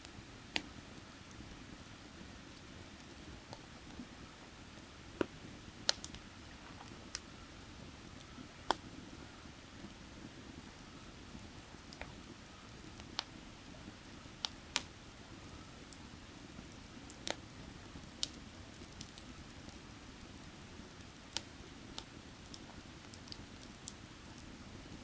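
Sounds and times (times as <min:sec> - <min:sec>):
firewood crackling and popping: 0:00.0 - 0:25.0.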